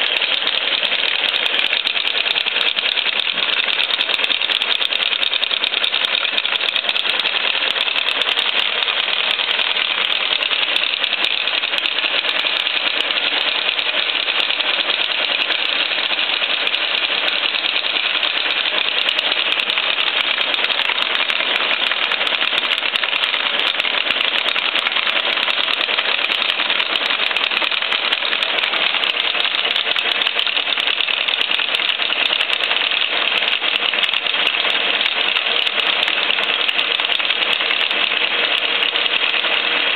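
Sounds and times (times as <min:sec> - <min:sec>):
milling cutter clattering on steel: 0:00.0 - 0:39.9.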